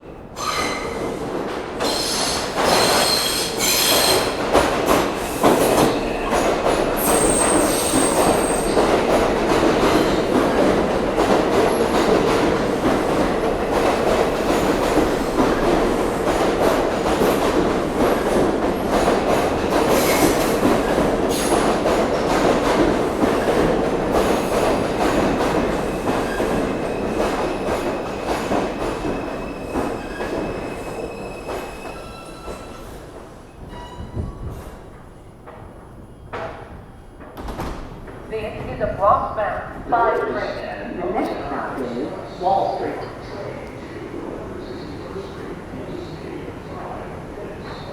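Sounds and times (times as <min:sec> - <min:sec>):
subway train wheels rumbling on rails: 0:00.0 - 0:47.9.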